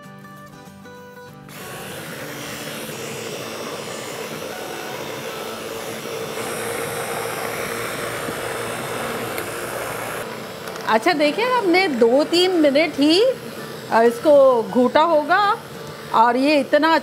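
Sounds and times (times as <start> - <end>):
immersion blender whining: 1.5 - 17.0.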